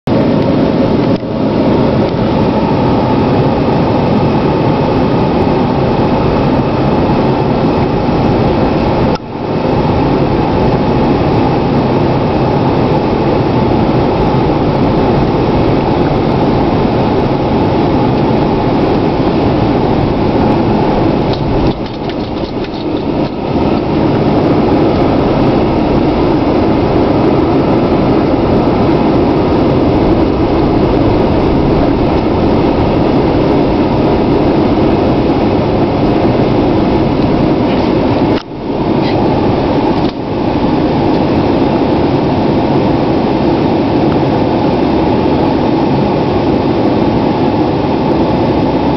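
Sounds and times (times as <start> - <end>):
diesel engine driving: 0.1 - 48.9.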